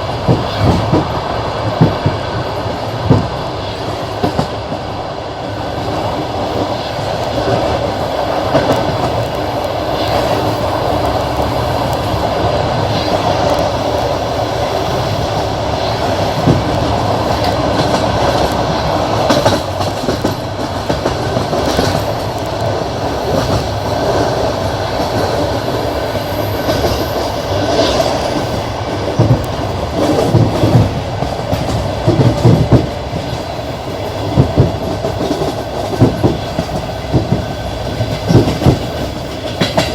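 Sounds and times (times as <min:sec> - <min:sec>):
train rolling rumble: 0:00.0 - 0:39.9
train wheels clattering: 0:00.0 - 0:39.9.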